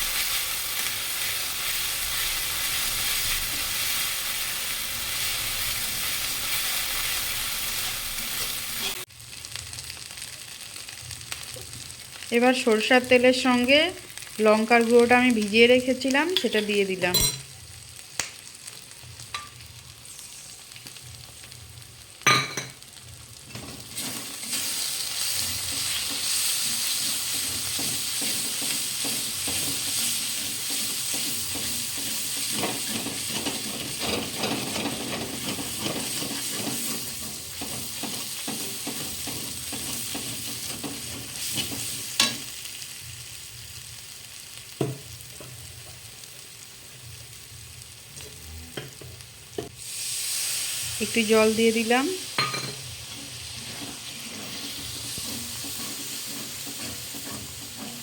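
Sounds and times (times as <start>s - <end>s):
spices sizzling in oil: 0.0s - 58.0s.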